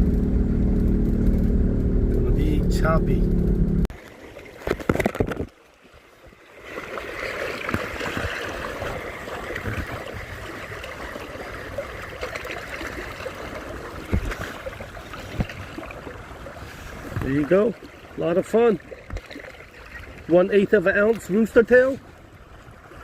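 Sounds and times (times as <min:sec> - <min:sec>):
lake water splashing and lapping: 0:03.9 - 0:23.0.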